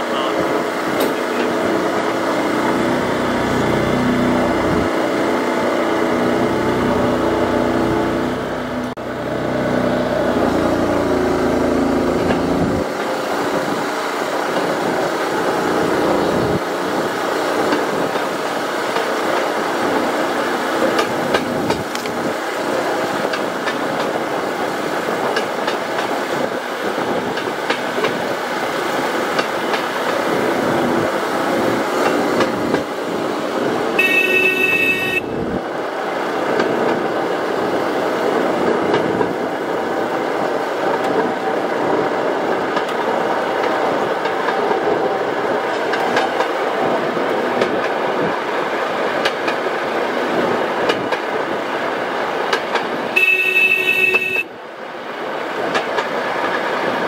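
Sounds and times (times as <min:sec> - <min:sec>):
wheels clattering over rail joints: 0:00.0 - 0:54.4, 0:55.2 - 0:57.0
motor trolley engine running: 0:00.0 - 0:54.7.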